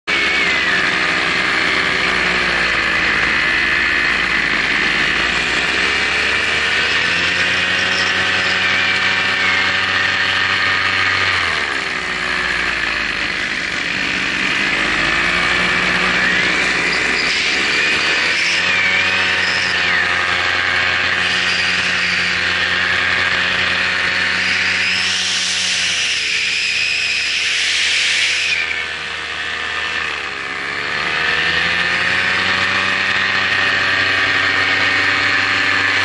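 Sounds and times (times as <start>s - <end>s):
drone propellers whirring: 0.1s - 36.0s.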